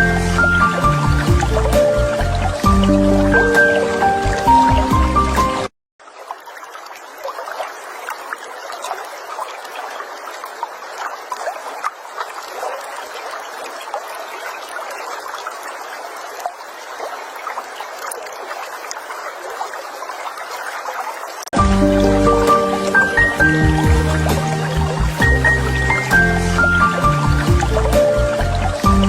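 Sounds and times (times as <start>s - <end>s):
waterfall splashing: 0.0s - 5.7s, 9.1s - 29.0s.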